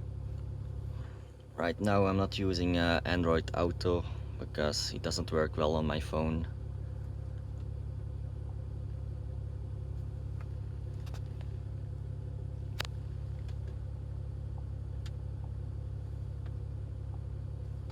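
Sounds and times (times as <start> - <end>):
car engine humming in cabin: 0.0 - 17.9.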